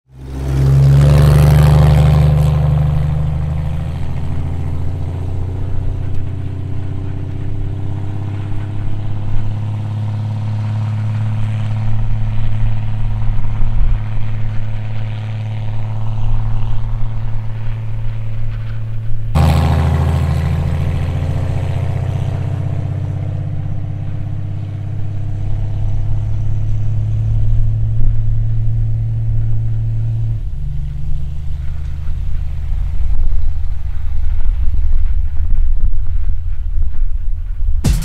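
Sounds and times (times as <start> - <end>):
vehicle engine humming: 0.1 - 38.0.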